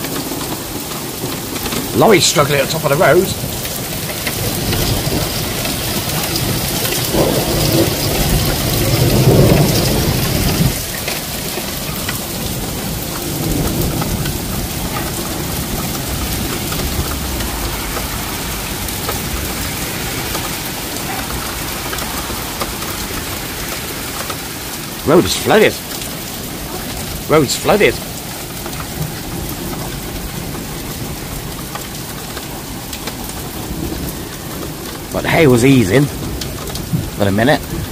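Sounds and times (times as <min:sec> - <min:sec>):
hailstone ticks: 0:00.0 - 0:37.9
heavy rain hissing: 0:00.0 - 0:37.9.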